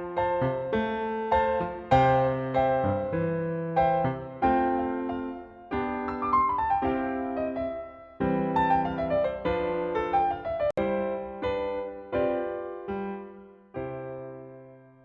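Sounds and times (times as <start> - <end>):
piano-tone keyboard music: 0.0 - 15.0.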